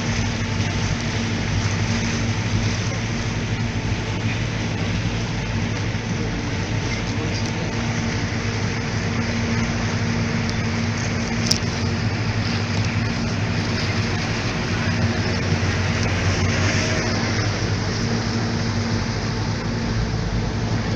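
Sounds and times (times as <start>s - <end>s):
motorboat engine humming: 0.0s - 20.9s
rushing water: 0.0s - 20.9s.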